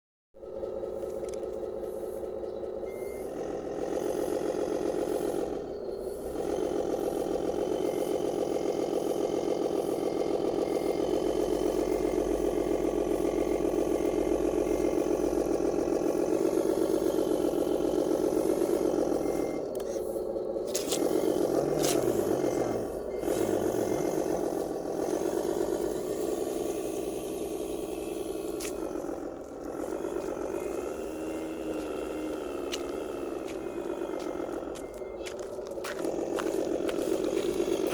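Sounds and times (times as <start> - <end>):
simulated diesel engine idling: 0.4 - 37.9.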